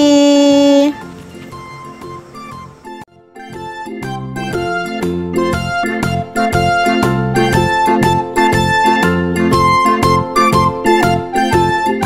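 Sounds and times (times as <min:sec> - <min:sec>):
background music with quick melody: 0:00.2 - 0:12.0.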